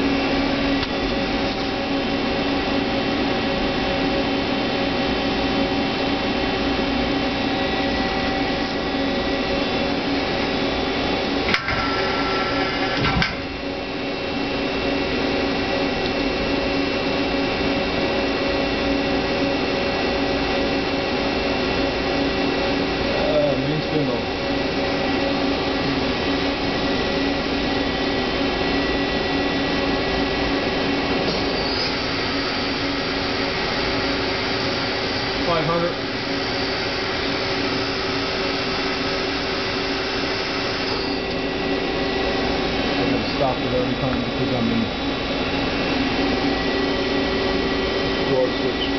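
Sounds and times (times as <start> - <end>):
machine hum with tones: 0.0 - 48.9.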